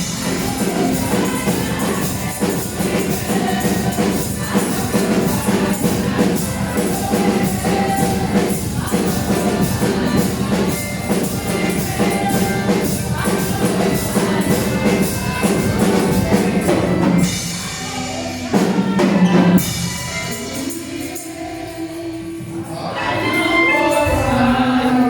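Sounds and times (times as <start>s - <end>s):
drum kit: 0.0s - 21.4s
gospel praise music: 0.0s - 25.0s
group singing: 0.0s - 25.0s.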